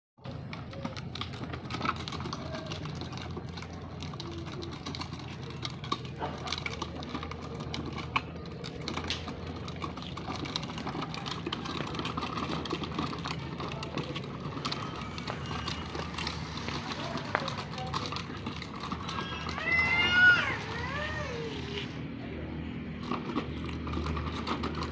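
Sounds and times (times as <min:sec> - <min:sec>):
plastic toy wheels rattling on concrete: 0:00.2 - 0:24.9.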